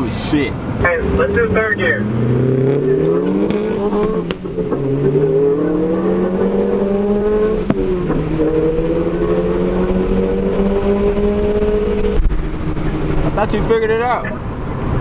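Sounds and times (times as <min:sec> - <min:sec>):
car engine accelerating: 0:00.5 - 0:15.0.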